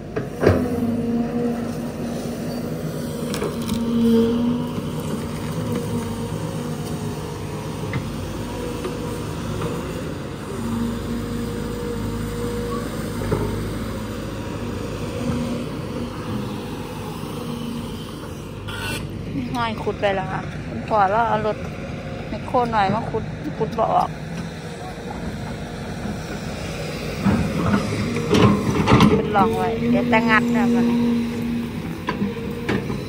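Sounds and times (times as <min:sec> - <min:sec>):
excavator engine with hydraulic whine: 0:00.0 - 0:33.0.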